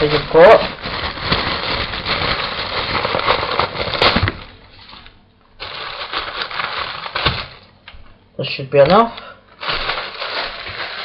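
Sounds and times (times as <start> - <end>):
lettuce leaves crackling: 0.0 - 7.6, 9.6 - 11.0.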